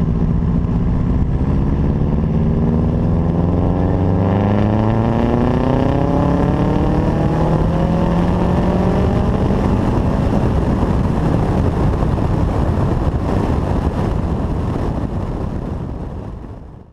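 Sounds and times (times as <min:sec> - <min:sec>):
car engine at full throttle: 0:00.0 - 0:16.9
wind noise: 0:00.0 - 0:16.9.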